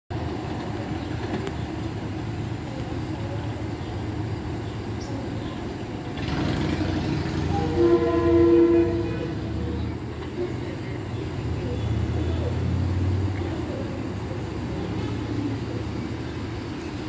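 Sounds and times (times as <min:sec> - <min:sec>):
electric train rumbling on track: 0:00.1 - 0:17.0.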